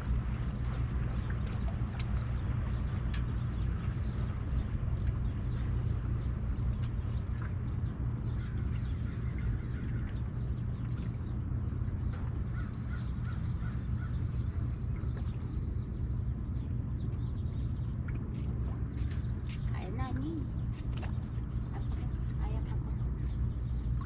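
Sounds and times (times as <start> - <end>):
birds calling: 0.0 - 24.0
steady low rumble: 0.0 - 24.0.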